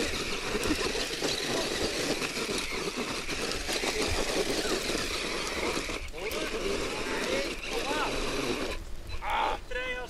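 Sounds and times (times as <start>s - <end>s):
remote control car motor running: 0.0s - 8.8s.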